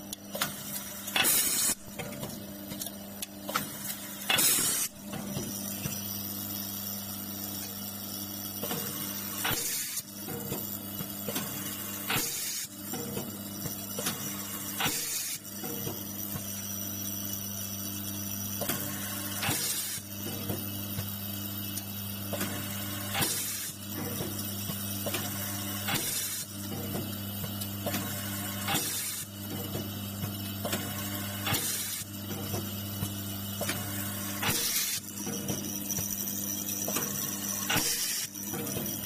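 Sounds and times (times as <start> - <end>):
vibratory feeder humming: 2.5 - 39.0.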